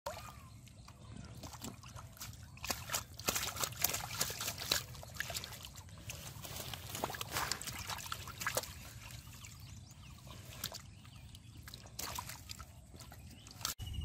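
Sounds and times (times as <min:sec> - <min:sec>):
splashing in muddy water: 0:00.1 - 0:14.0.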